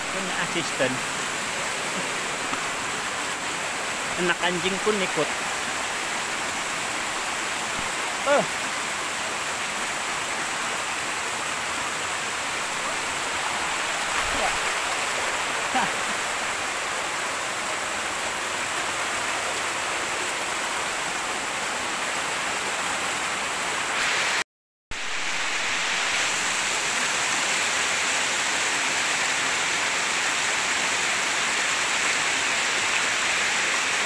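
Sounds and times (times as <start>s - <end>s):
stream running over rocks: 0.0s - 24.4s, 25.0s - 34.0s.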